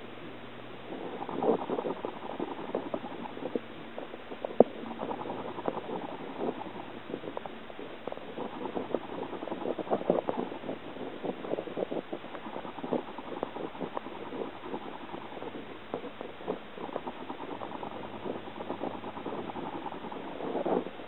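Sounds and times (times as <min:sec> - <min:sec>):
water bubbling and gurgling: 0:00.9 - 0:21.0.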